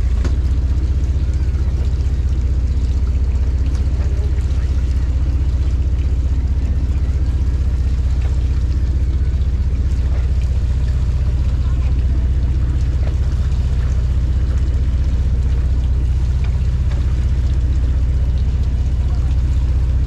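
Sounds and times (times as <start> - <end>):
boat engine throbbing: 0.0 - 20.0.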